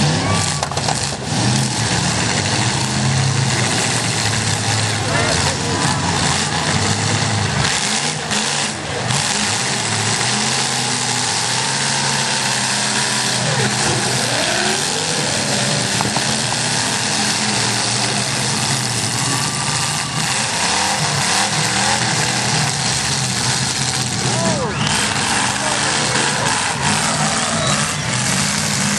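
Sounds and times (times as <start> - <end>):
car engines revving: 0.0 - 28.9.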